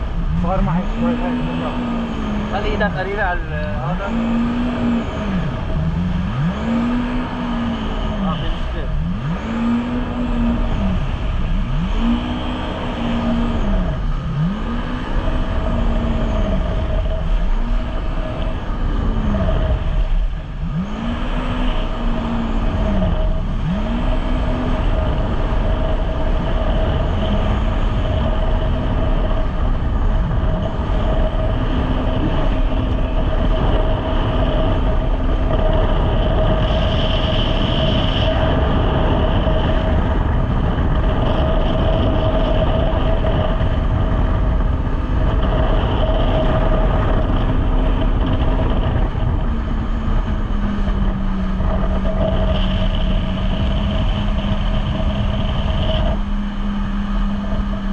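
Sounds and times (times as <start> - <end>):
jet ski engine surging: 0.0 - 57.9.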